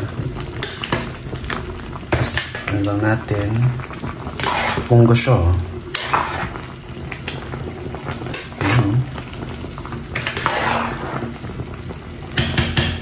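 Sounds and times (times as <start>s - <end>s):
pot bubbling at a boil: 0.0s - 13.0s.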